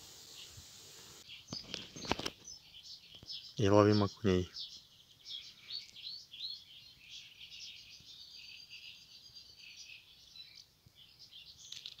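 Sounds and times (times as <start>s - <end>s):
birds chirping: 0.0s - 12.0s
steady high bird trill: 1.2s - 12.0s.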